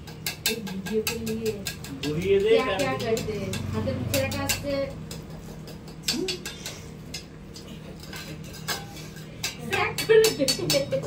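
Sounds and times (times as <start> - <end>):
small metal vessels clinking: 0.0 - 11.0.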